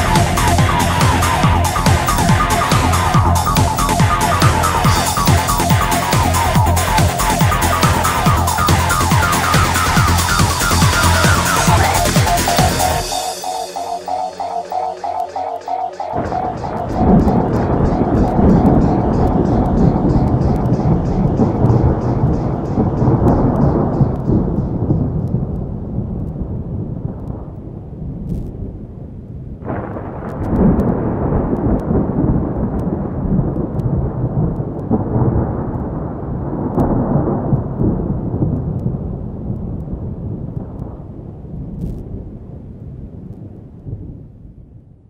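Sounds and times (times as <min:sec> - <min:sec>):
sharp thunder peal: 0:00.0 - 0:27.6, 0:29.6 - 0:39.0
rolling thunder: 0:00.0 - 0:44.4
rain: 0:00.0 - 0:44.8.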